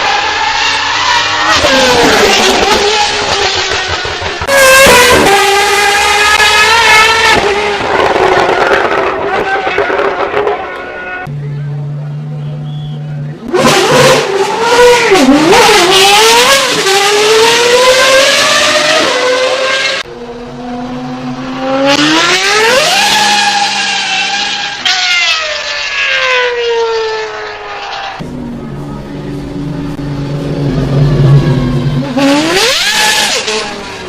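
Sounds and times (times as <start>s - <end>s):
racing car engine revving: 0.0s - 34.0s.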